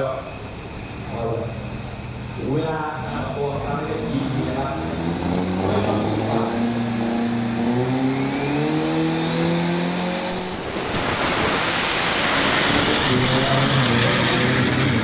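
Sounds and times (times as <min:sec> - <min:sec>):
diesel truck accelerating hard: 0:00.0 - 0:15.0
thin rising whine: 0:00.4 - 0:15.0
broad rushing noise: 0:02.2 - 0:15.0.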